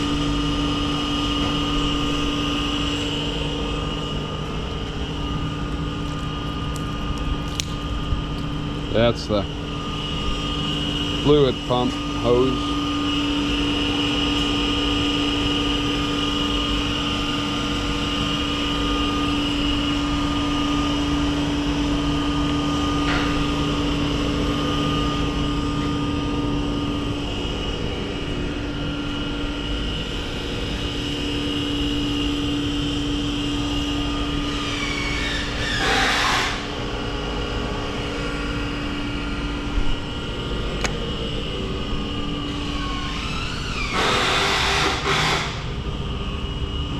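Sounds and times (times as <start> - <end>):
surface grinder humming and whining: 0.0 - 46.9.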